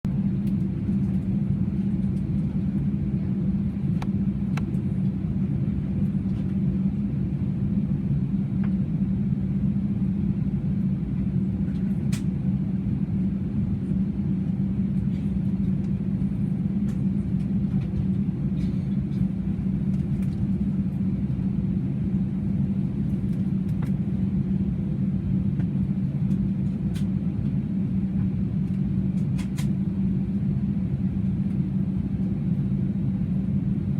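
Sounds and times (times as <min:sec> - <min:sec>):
airplane cabin drone: 0:00.1 - 0:33.9.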